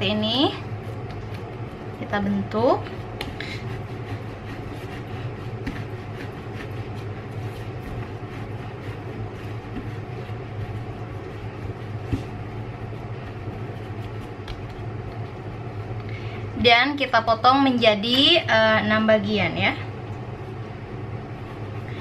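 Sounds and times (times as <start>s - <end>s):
hands kneading dough on wooden board: 0.0s - 16.1s, 20.3s - 22.0s
steady low hum: 0.0s - 22.0s.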